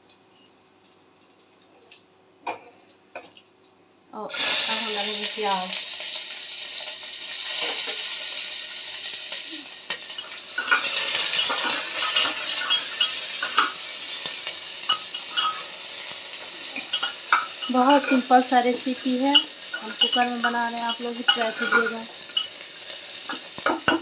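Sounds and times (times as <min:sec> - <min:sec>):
onion sizzling in oil: 0:04.1 - 0:24.0.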